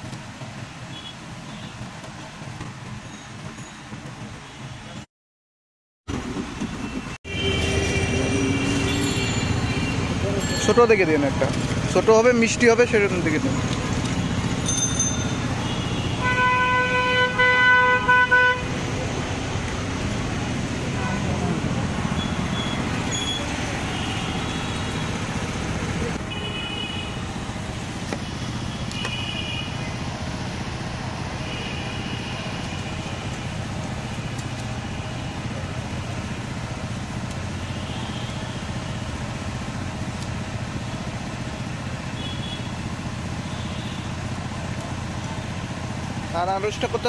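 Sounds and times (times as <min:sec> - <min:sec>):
street traffic noise: 0:00.0 - 0:05.1, 0:06.1 - 0:47.0.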